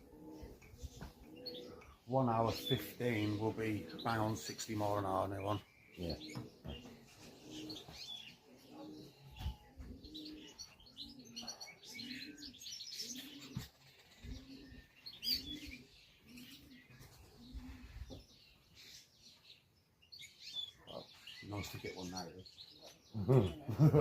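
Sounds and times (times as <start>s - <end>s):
pigeon cooing: 0.0s - 19.0s, 20.7s - 24.0s
small birds chirping: 0.0s - 24.0s.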